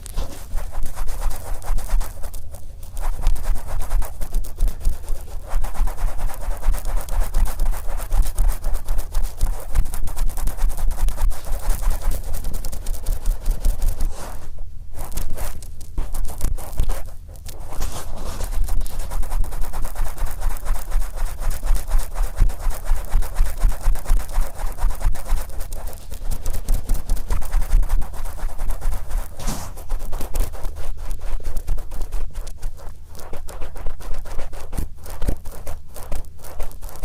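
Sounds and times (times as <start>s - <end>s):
cotton swab scratching microphone: 0.0s - 37.0s.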